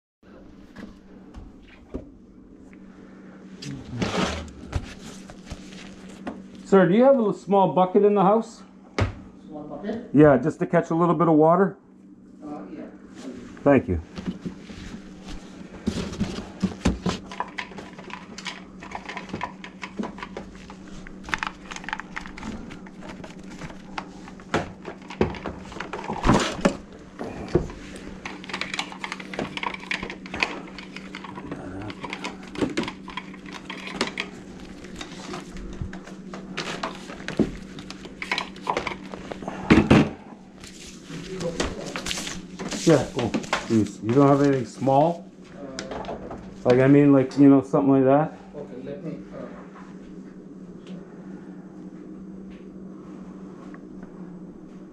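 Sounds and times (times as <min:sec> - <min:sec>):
faint steady hum: 0:00.3 - 0:54.9.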